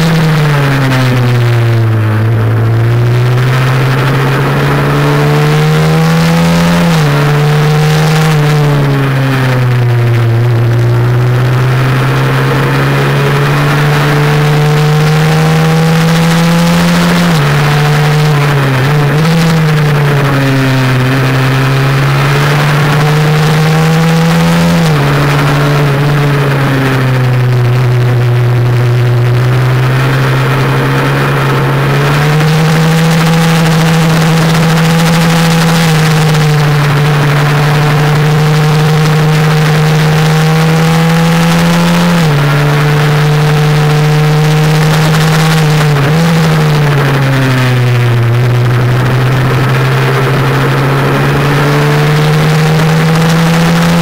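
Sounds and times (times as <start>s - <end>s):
minibike engine running hard: 0.0s - 54.0s.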